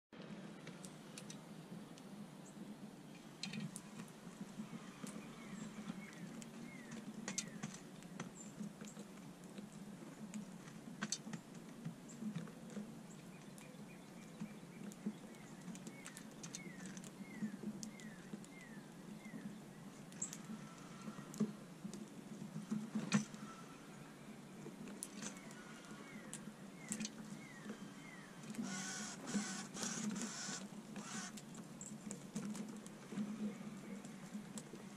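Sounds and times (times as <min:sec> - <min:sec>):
birds pecking seed on wooden deck: 0:00.2 - 0:34.9.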